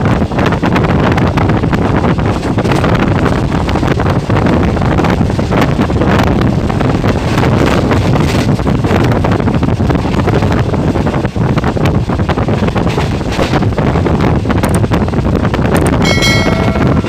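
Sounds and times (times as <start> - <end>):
train wheels clattering on rails: 0.0 - 17.0
wind buffeting microphone: 0.0 - 17.0.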